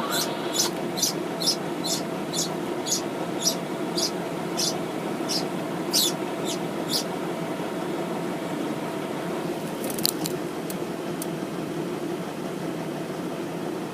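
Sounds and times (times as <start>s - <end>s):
engine idling hum: 0.0s - 13.9s.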